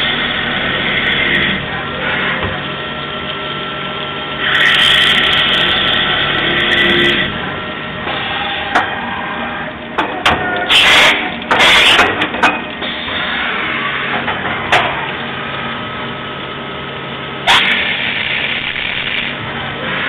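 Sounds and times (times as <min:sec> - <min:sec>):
machine spindle whine and coolant hiss: 0:00.0 - 0:20.0.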